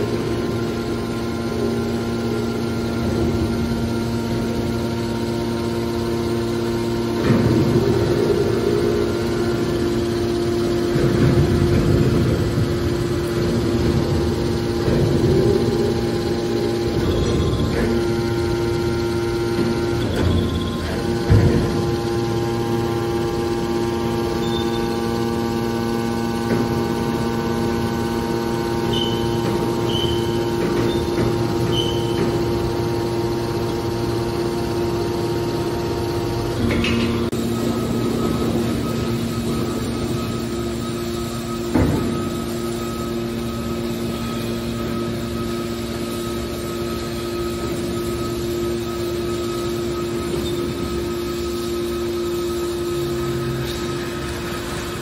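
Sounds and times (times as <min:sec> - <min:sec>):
hydraulic motor and pump humming: 0:00.0 - 0:55.0.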